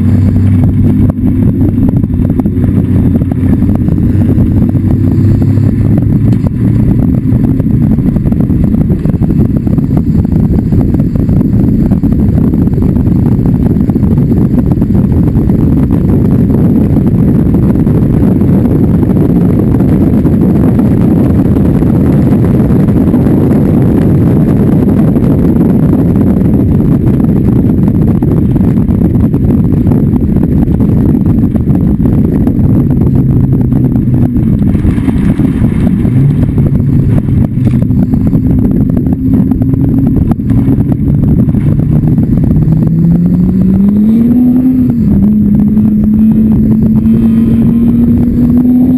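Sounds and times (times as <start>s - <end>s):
race car engine: 0.0s - 48.9s
wind rush: 0.0s - 48.9s.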